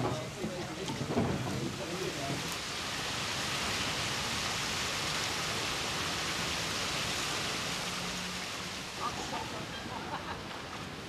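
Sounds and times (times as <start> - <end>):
water gushing through lock gates: 0.0 - 11.0.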